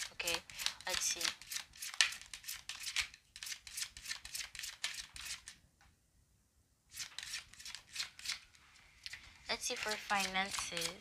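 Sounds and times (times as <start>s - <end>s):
cards being shuffled: 0.0s - 5.6s, 7.0s - 11.0s.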